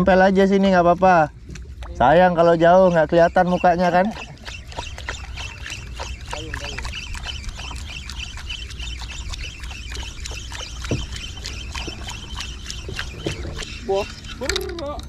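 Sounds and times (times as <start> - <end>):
water lapping around a boat: 0.0 - 15.0.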